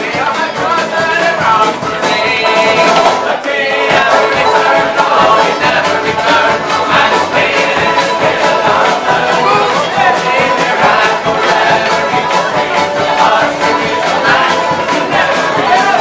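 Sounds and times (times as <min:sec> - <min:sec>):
folk band playing: 0:00.0 - 0:16.0
bowed fiddle melody: 0:01.8 - 0:16.0.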